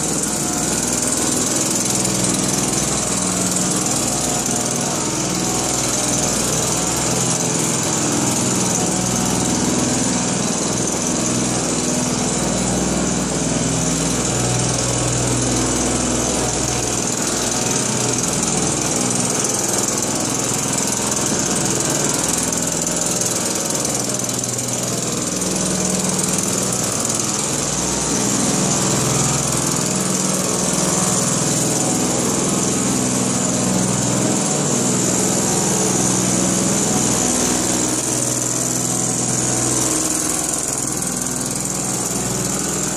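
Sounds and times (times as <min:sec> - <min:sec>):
small engine humming: 0:00.0 - 0:42.9.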